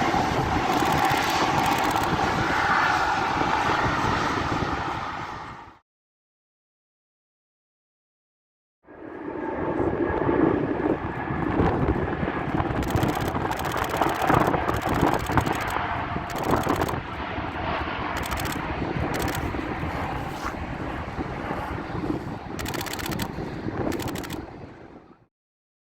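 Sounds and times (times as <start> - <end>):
faint high jet whine: 0.0 - 5.8, 8.9 - 25.2
jet engines rumbling: 0.0 - 5.8, 8.9 - 25.2.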